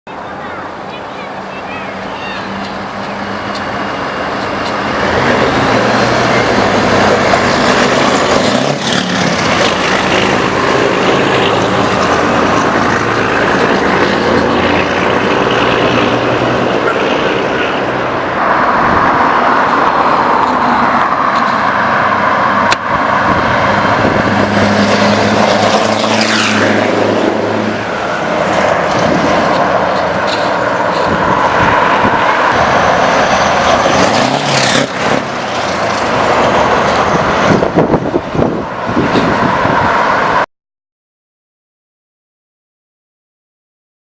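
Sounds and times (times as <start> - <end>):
truck engine running loud: 0.2 - 40.3.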